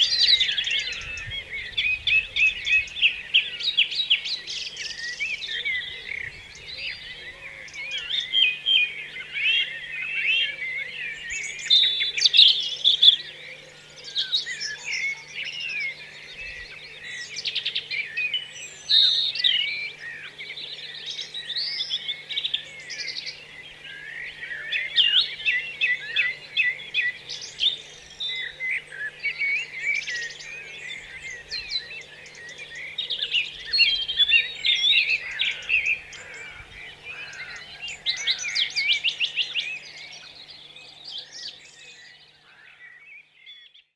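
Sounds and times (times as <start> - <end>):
birds chirping and whistling: 0.0 - 43.9.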